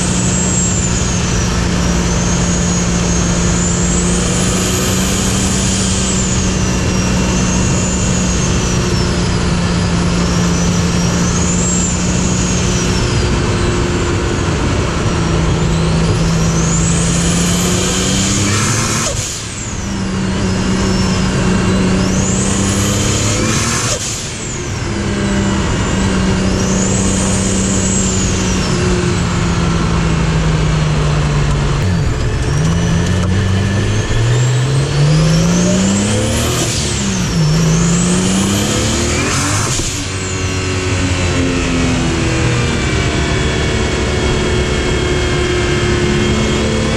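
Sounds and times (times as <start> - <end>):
car engine running hard: 0.0 - 46.9.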